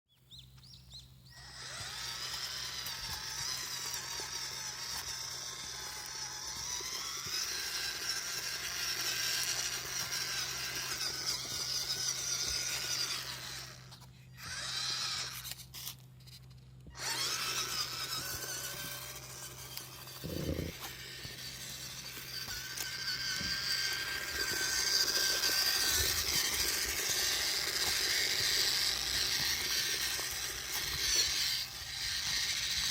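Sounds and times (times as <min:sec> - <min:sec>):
toy truck electric motor whining: 0:01.3 - 0:32.9.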